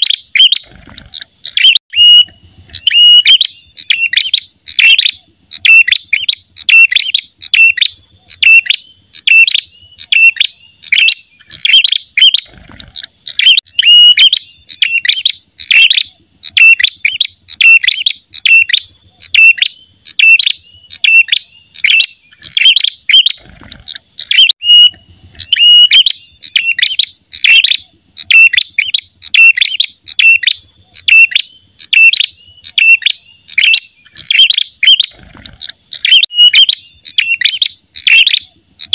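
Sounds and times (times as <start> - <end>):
bird chirping sharply: 0.0 - 0.8, 1.5 - 38.9.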